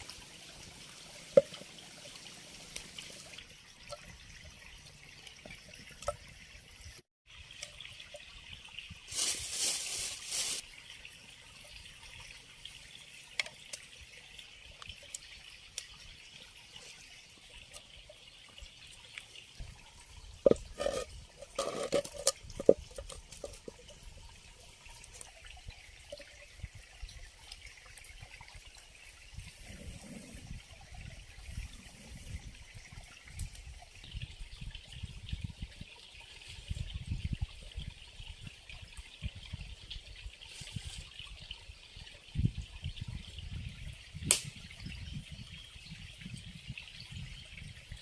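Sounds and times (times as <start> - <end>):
water trickling: 0.0 - 48.0.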